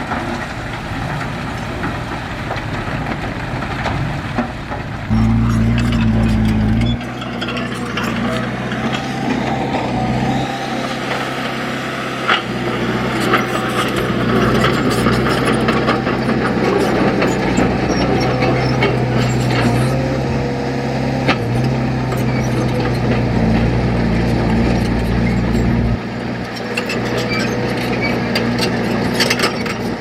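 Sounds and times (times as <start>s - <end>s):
heavy machine engine running: 0.0s - 30.0s.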